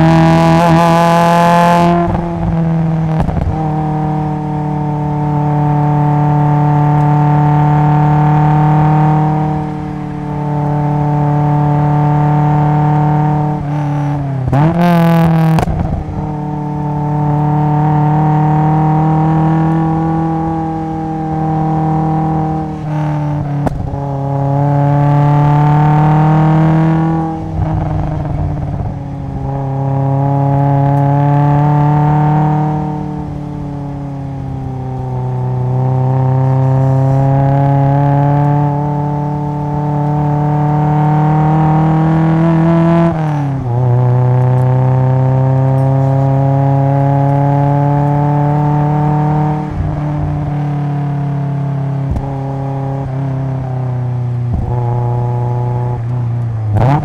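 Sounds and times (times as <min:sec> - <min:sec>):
car engine exhaust revving: 0:00.0 - 0:57.0.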